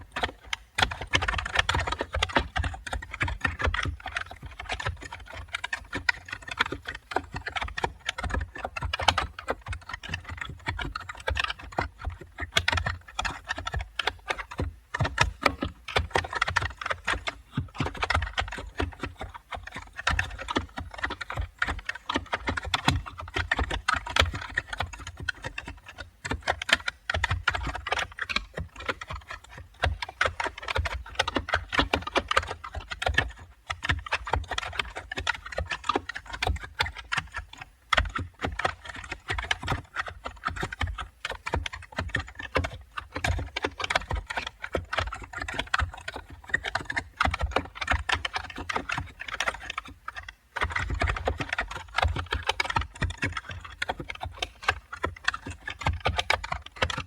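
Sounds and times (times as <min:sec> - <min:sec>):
typing on computer keyboard: 0:00.0 - 0:57.0.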